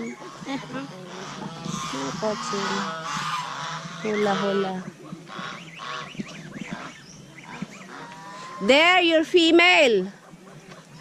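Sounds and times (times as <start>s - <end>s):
poultry calling: 0.0s - 11.0s.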